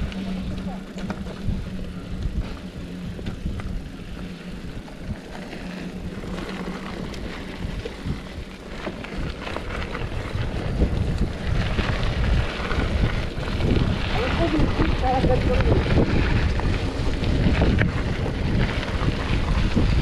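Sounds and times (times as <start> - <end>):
bike knocks and rattles: 0.0 - 20.0
tyres rumbling on dirt: 0.0 - 20.0
wind buffeting microphone: 0.0 - 20.0.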